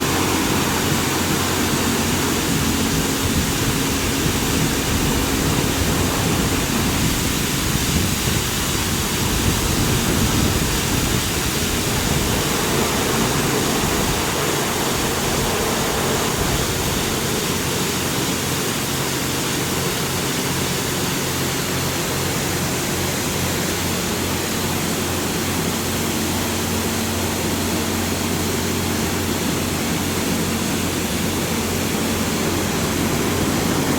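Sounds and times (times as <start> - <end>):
high-pressure water jets spraying: 0.0 - 33.9
low pump hum: 0.0 - 33.9.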